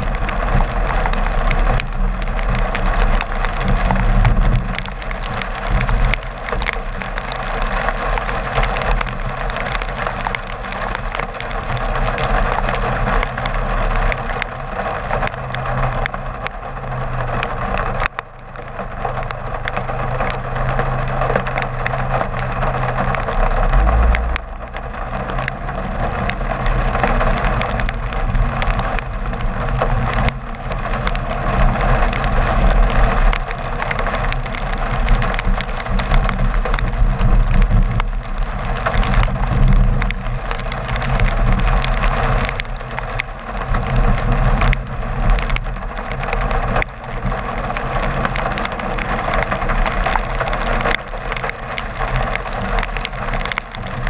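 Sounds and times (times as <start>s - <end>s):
car driving on wet road: 0.0s - 54.0s
rain ticking on camera housing: 0.0s - 54.0s.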